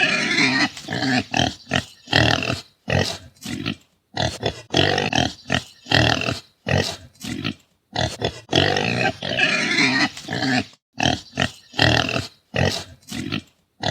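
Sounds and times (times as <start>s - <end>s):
pigs grunting: 0.0s - 13.9s.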